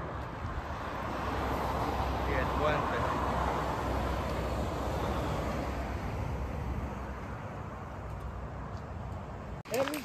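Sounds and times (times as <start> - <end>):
cars passing: 0.0 - 9.6.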